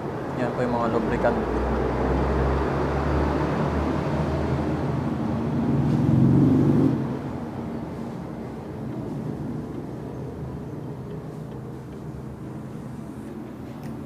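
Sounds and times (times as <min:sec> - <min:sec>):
motor vehicle passing by: 0:01.0 - 0:13.8.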